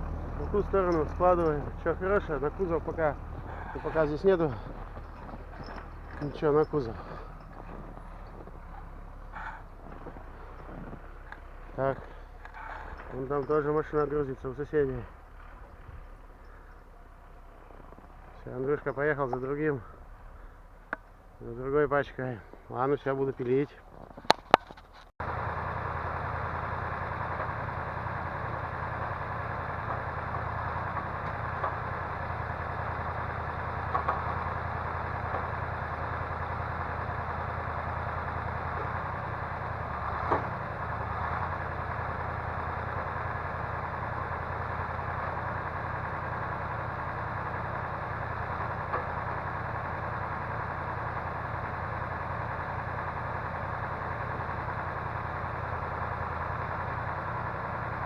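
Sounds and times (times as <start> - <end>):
log crane knocks: 0.0 - 16.5, 24.2 - 58.0
truck engine running: 0.0 - 58.0.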